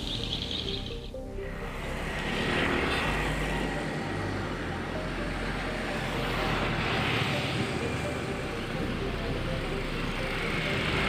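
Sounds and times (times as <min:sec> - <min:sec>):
boat engine humming: 0:00.0 - 0:11.0
rushing noise: 0:00.0 - 0:11.0.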